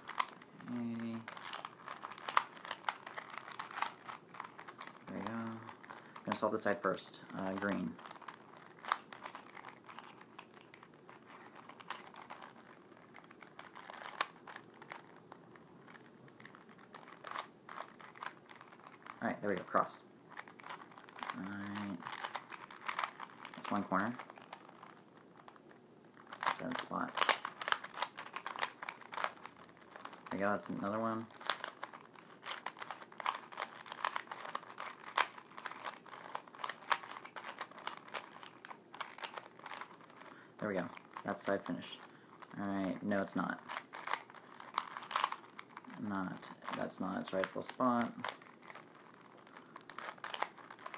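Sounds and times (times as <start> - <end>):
puzzle cube clicking: 0.0 - 50.9.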